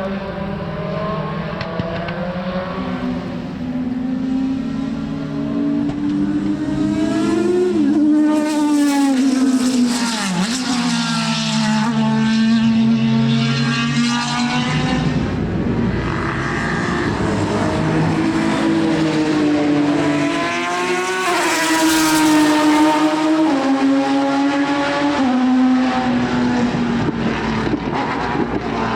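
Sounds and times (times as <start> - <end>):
racing car engines accelerating: 0.0 - 28.9.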